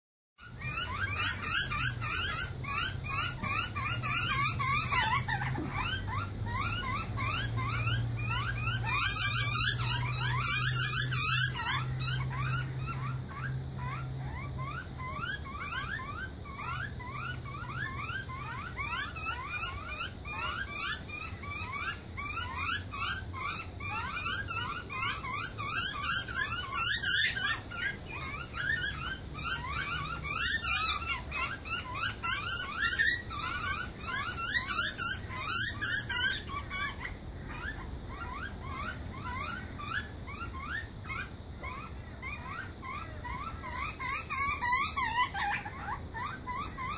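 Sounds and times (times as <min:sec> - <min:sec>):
harsh hissing bird calls: 0:00.4 - 0:46.9
young birds squeaky begging calls: 0:00.4 - 0:46.9.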